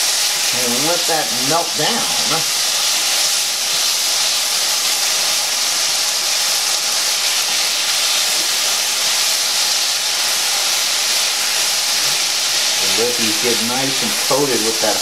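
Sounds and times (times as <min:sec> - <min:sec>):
chicken wings sizzling in a pan: 0:00.0 - 0:15.0.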